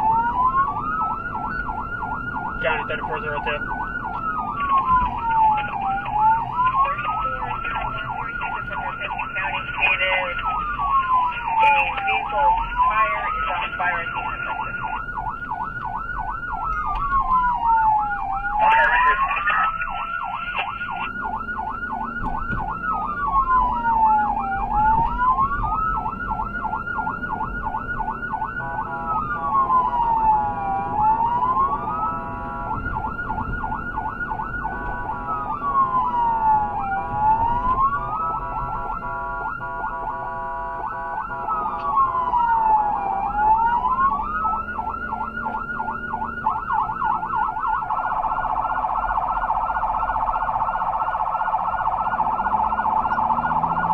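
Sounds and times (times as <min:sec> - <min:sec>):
emergency vehicle siren: 0:00.0 - 0:53.9
road and engine noise: 0:00.0 - 0:53.9.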